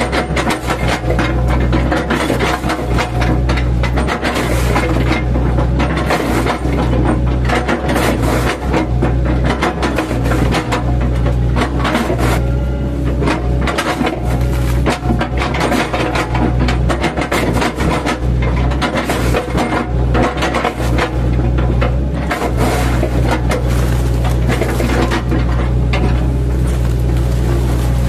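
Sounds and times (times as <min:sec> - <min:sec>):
excavator diesel engine running: 0:00.0 - 0:28.0
knocks and crunches of wood: 0:00.0 - 0:28.0.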